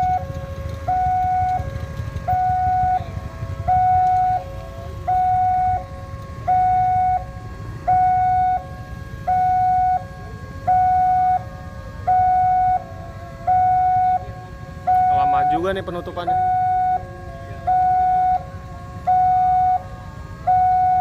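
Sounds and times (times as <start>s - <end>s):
engines idling: 0.0s - 21.0s
two-tone crossing warning alarm: 0.0s - 21.0s.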